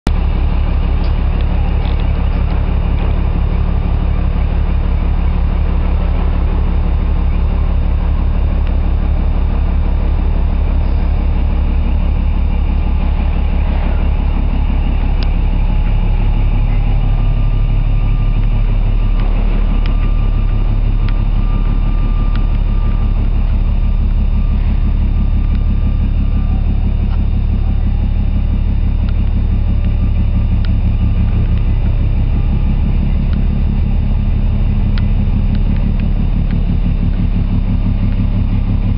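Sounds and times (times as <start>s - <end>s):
ship machinery droning: 0.1s - 38.9s
faint high whine: 0.2s - 38.9s.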